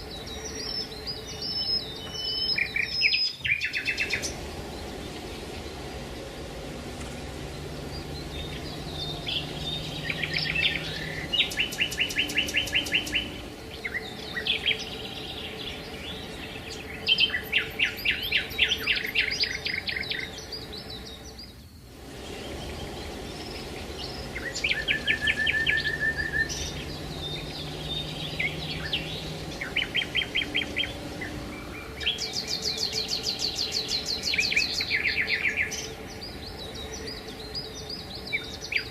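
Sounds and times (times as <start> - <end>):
faint outdoor background: 0.0 - 38.9
songbirds chirping and trilling: 0.0 - 38.9.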